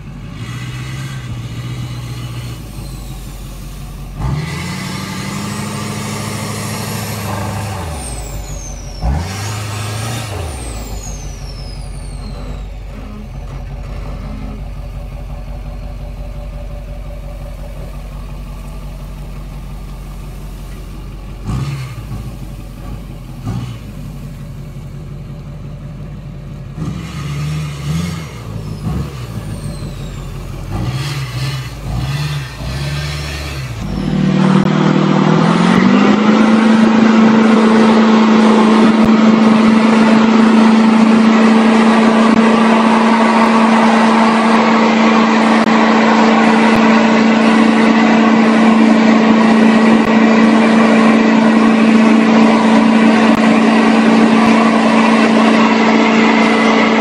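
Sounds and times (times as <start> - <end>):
diesel pickup engine revving: 0.0 - 57.0
truck engine at high rpm: 0.0 - 57.0.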